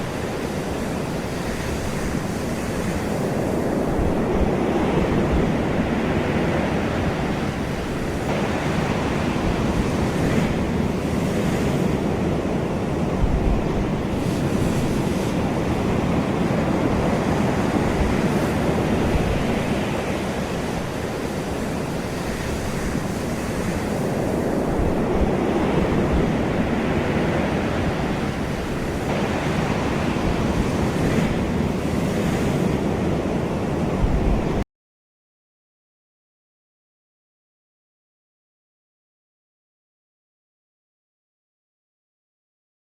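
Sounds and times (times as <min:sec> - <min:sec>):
ocean waves washing onto shore: 0:00.0 - 0:34.6
wind noise on microphone: 0:00.0 - 0:34.6.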